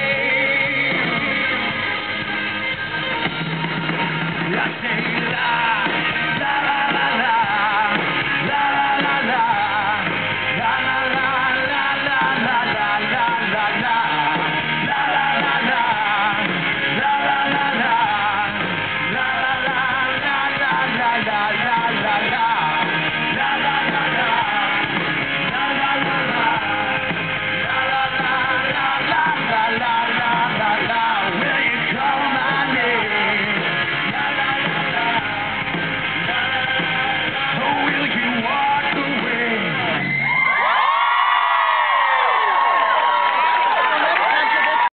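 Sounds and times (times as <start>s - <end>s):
man singing lead: 0.0s - 40.7s
electric guitar: 0.0s - 44.9s
live rock band playing: 0.0s - 44.9s.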